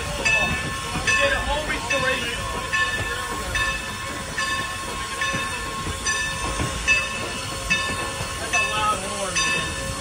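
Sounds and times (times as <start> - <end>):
steam locomotive whine and hiss: 0.0 - 10.0.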